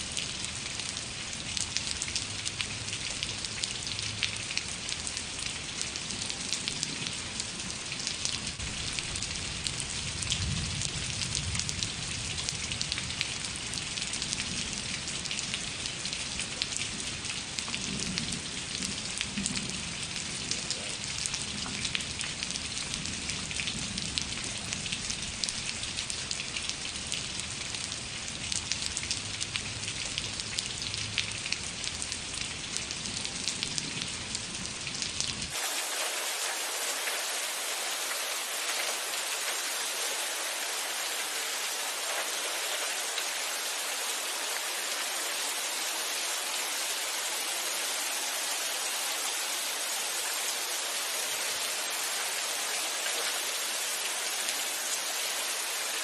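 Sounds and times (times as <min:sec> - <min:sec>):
rain drops pattering: 0:00.0 - 0:56.0.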